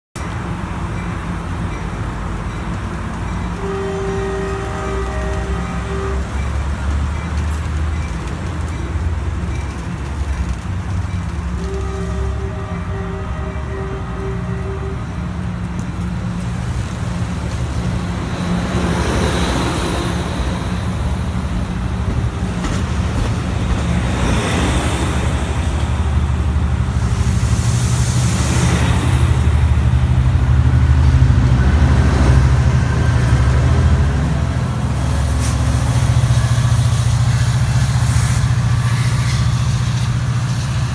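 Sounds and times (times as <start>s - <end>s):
diesel train rumble: 0.2s - 40.9s
hissing from moving train cars: 0.3s - 40.9s.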